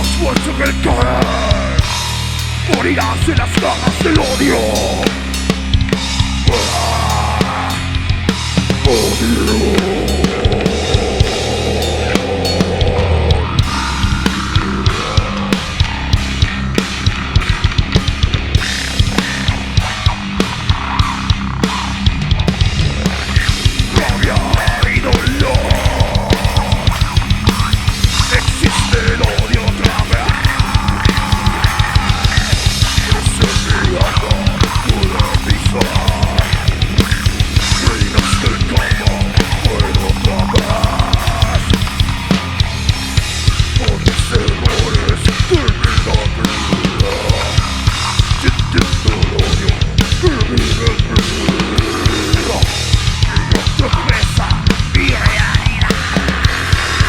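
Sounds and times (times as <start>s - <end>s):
death metal band playing: 0.0s - 57.0s
fast dense drumming: 0.0s - 57.0s.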